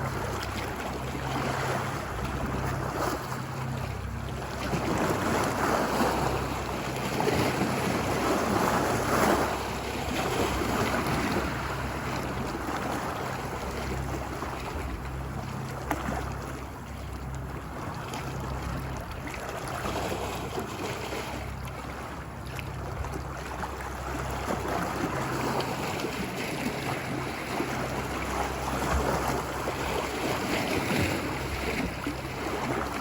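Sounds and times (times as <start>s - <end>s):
low steady rumble: 0.0s - 33.0s
ocean surf washing ashore: 0.0s - 33.0s.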